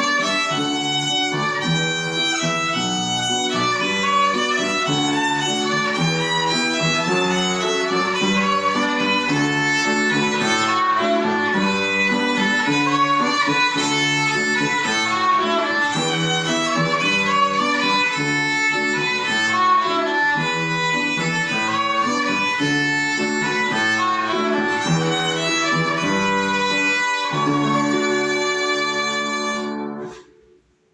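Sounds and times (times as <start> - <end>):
instrumental melody: 0.0 - 30.9.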